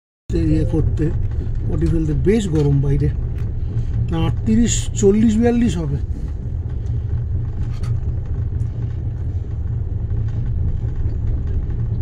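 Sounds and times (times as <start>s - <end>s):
train rumbling inside coach: 0.3s - 12.0s.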